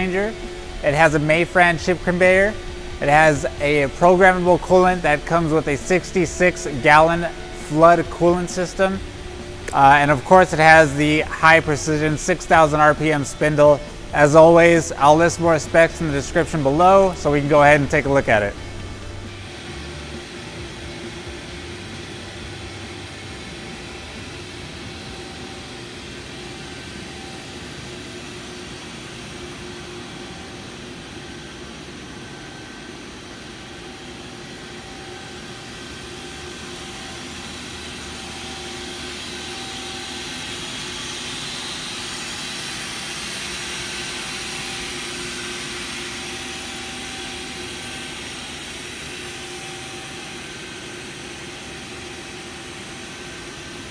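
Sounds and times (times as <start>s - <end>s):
faint constant tones: 0.0s - 53.9s
machine hum and hiss: 0.0s - 53.9s.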